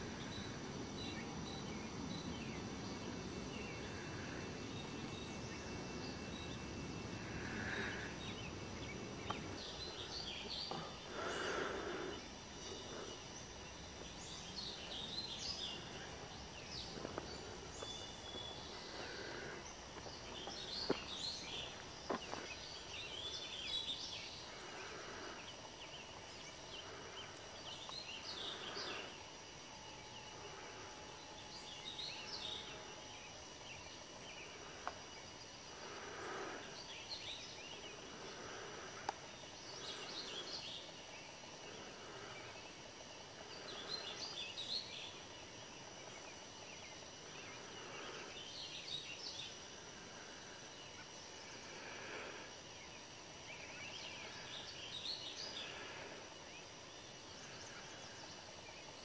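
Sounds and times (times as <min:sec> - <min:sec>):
soft hiss: 0:00.0 - 0:59.0
songbirds chirping: 0:00.0 - 0:59.0.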